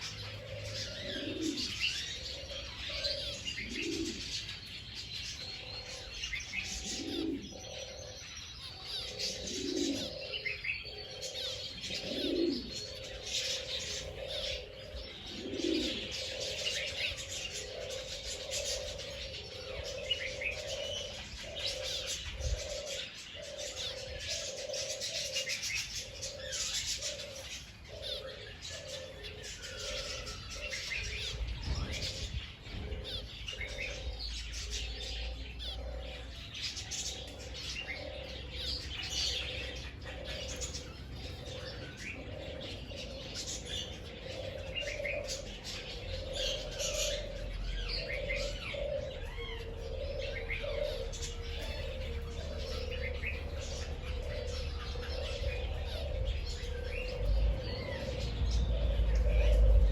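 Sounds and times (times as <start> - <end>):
doves cooing: 0.0 - 59.9
small birds chirping: 0.0 - 59.9.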